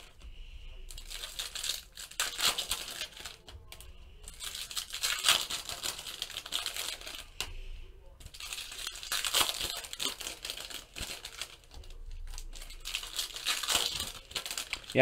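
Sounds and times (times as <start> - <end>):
foil wrappers crinkling and tearing: 0.0 - 15.0.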